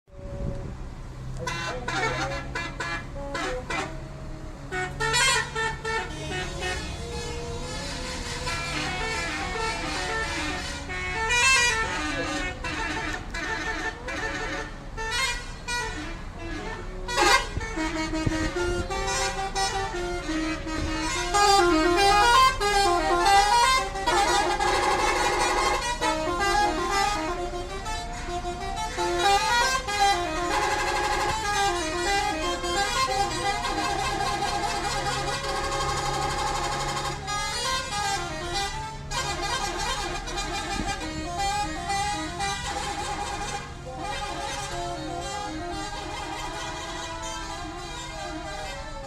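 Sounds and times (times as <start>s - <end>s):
engine idling hum: 0.1s - 49.0s
musical bus horns: 0.1s - 49.0s.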